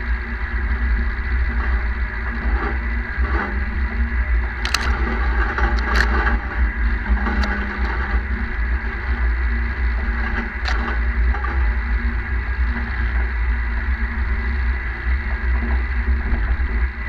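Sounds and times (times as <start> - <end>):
tractor engine drone: 0.0 - 17.0.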